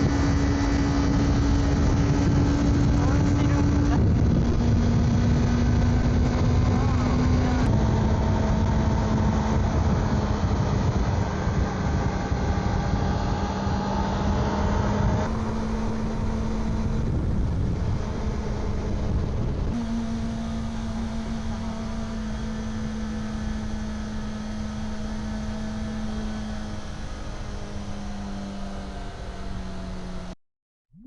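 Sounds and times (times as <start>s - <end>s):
wind rush on microphone: 0.0s - 30.2s
motorcycle engine cruising: 0.0s - 30.4s.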